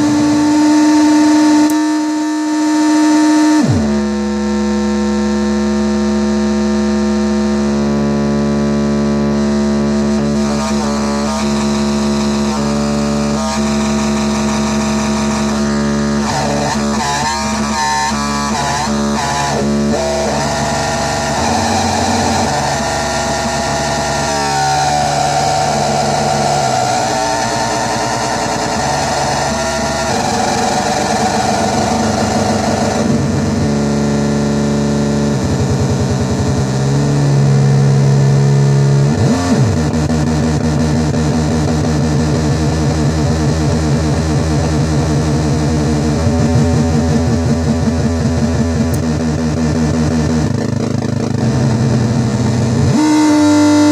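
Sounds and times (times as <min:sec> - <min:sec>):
buzzing synth drone: 0:00.0 - 0:53.9.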